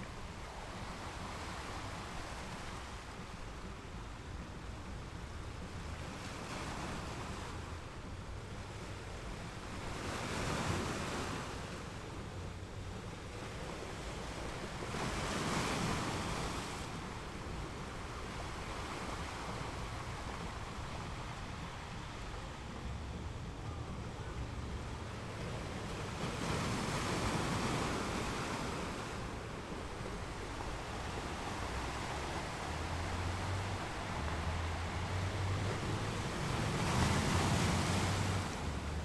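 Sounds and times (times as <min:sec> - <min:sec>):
surf washing on beach: 0:00.0 - 0:39.0
waves breaking: 0:00.0 - 0:39.0.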